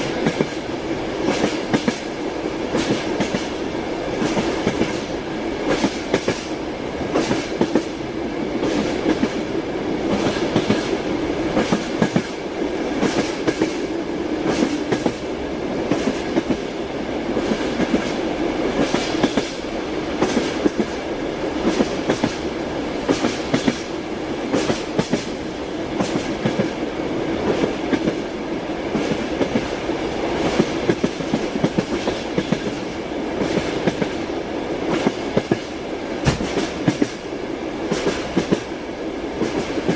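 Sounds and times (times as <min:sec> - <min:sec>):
train rolling rumble: 0:00.0 - 0:39.9.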